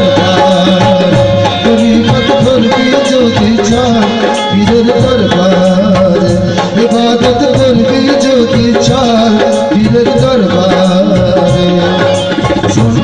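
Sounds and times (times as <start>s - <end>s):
hand drum beat: 0.0s - 13.0s.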